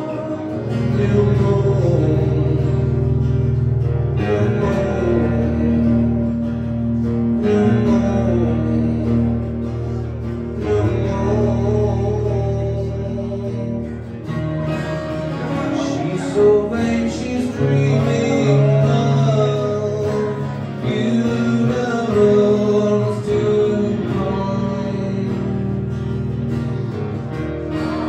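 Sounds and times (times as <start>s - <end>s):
man singing: 0.0s - 27.0s
guitars playing: 0.0s - 28.0s.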